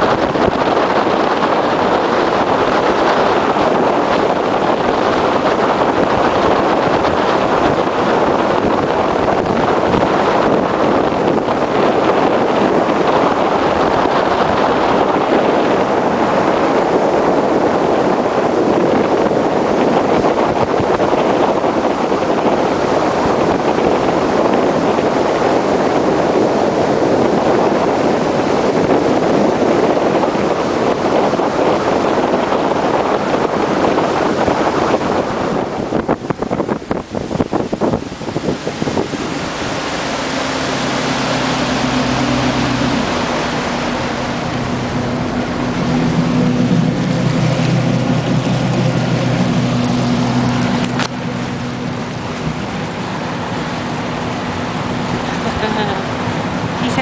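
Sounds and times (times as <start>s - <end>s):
motorboat engine drone: 0.0s - 57.0s
wind noise on microphone: 0.0s - 57.0s.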